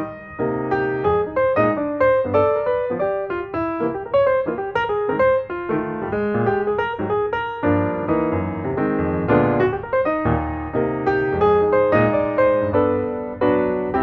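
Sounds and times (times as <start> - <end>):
lively piano melody: 0.0 - 14.0.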